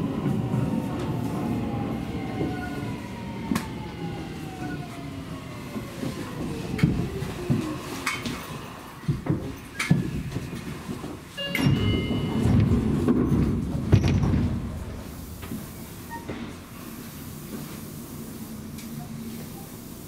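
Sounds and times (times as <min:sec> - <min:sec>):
low train rumble: 0:00.0 - 0:20.0.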